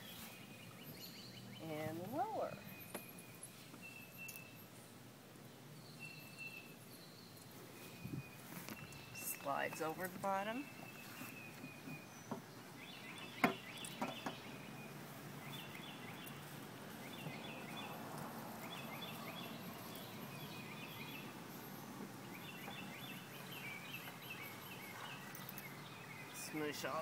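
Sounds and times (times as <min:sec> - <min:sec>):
bird singing: 0:00.0 - 0:04.7, 0:05.5 - 0:27.0.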